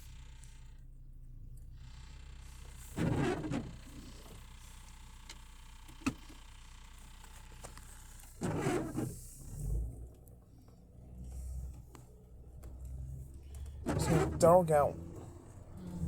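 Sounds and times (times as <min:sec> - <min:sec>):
car interior hum: 0:00.0 - 0:16.0.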